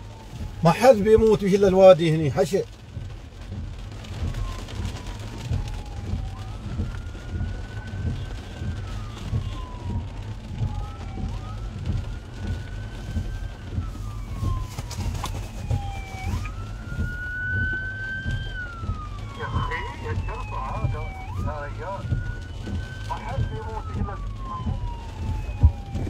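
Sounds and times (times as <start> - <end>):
low rumble inside car: 0.0 - 26.0
police siren wailing: 0.0 - 26.0.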